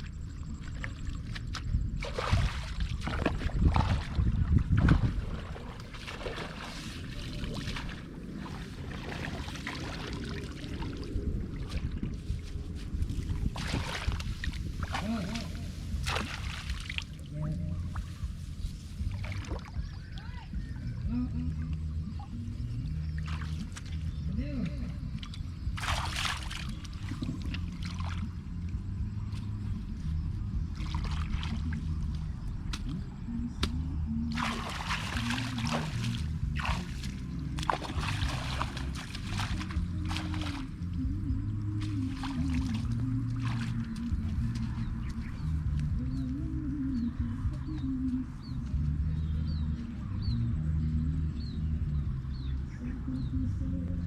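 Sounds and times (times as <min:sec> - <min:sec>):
water splashing and trickling: 0:00.0 - 0:48.9
steady low hum: 0:00.0 - 0:54.0.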